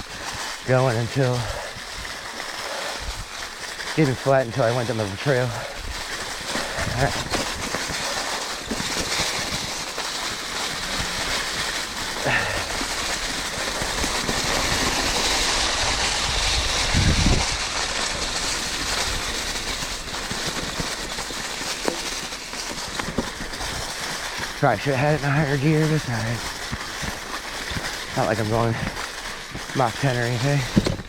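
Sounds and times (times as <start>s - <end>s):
bike rattling over bumps: 0.0s - 31.0s
bike tyres on dirt trail: 0.0s - 31.0s.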